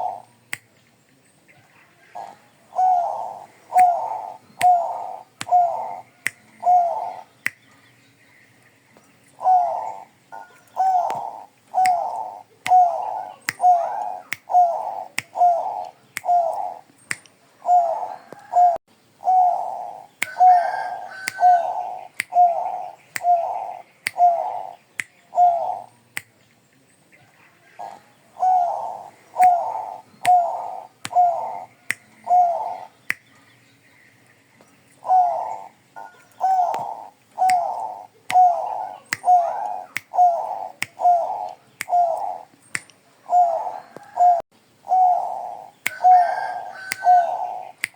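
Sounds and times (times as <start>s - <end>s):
dove cooing: 0.0s - 0.3s, 1.9s - 7.3s, 9.4s - 16.9s, 17.6s - 25.9s, 27.8s - 33.0s, 35.0s - 42.5s, 43.2s - 47.8s.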